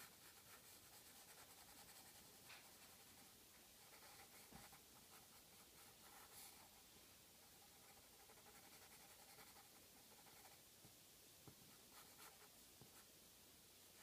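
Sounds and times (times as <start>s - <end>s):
pencil scratching on paper: 0.0s - 6.8s, 7.4s - 10.6s, 11.8s - 13.0s.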